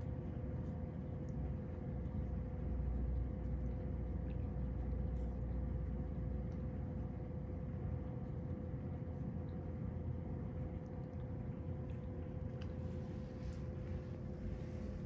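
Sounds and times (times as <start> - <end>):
low rumble: 0.0 - 15.0
steady hum: 0.0 - 15.0.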